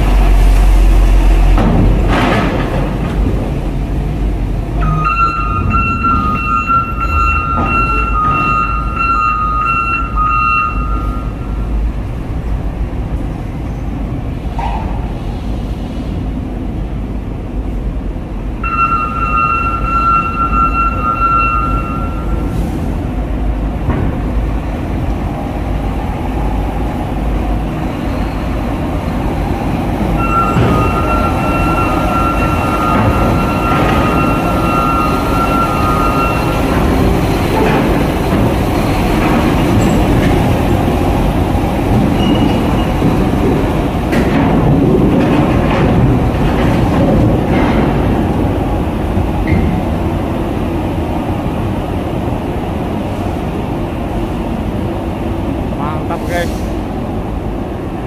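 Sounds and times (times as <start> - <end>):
diesel trucks rumbling: 0.0 - 18.6, 21.6 - 58.0.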